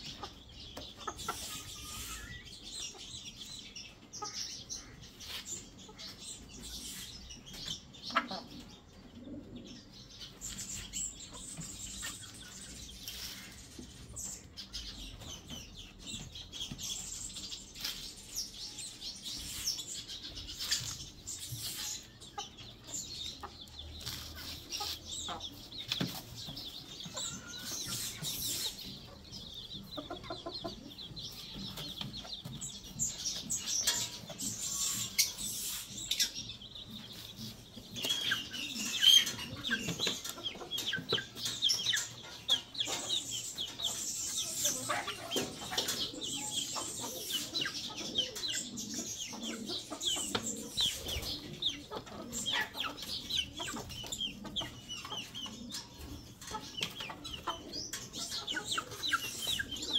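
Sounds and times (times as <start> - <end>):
chickens clucking: 0.0 - 59.9
chicks chirping: 0.0 - 59.9.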